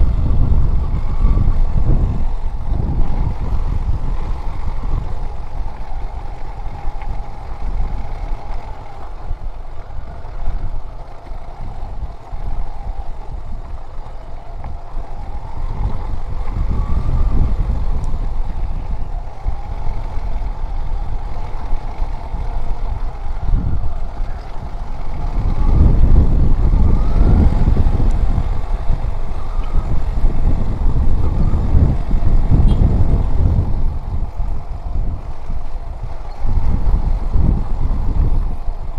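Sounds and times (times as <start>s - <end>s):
motorcycle engine revving: 0.0s - 34.4s
wind buffeting microphone: 0.0s - 38.9s.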